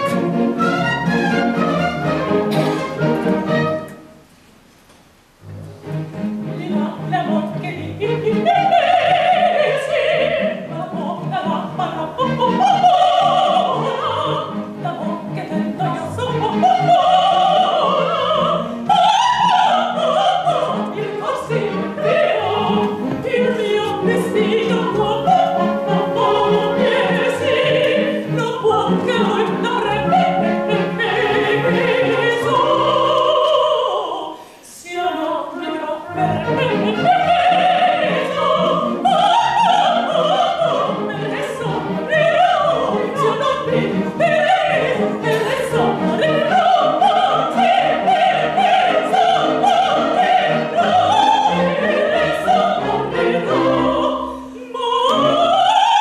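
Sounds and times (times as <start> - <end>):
orchestra with bowed strings: 0.0 - 4.1, 5.4 - 33.7, 35.6 - 56.0
soprano singing opera: 6.4 - 56.0.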